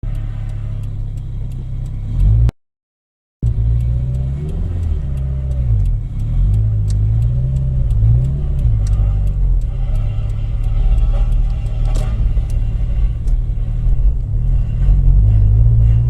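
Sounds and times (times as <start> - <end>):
sharp short ticks: 0.0 - 2.5, 3.4 - 16.0
turbocharged car engine revving: 0.0 - 2.5, 3.4 - 16.0.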